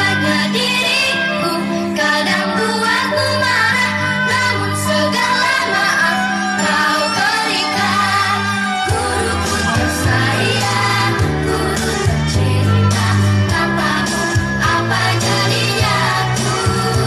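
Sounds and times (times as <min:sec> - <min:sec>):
backing music with bass line: 0:00.0 - 0:17.0
children's choir singing: 0:00.0 - 0:17.0.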